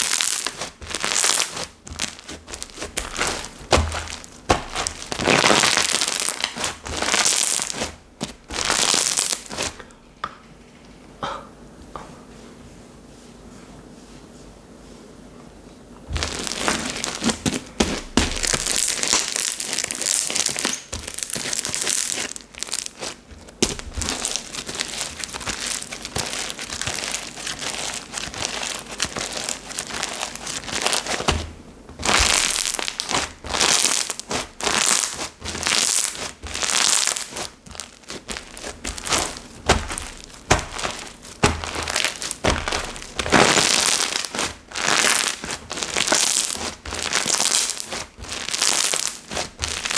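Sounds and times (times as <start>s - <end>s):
hands squishing slime: 0.0s - 9.8s, 16.1s - 49.9s.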